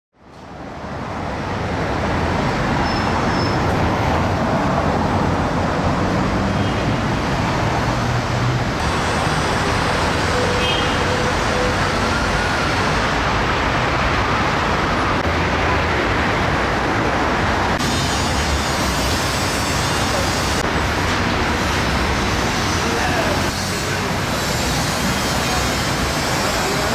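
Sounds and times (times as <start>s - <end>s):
cars passing close by: 0.4s - 26.9s.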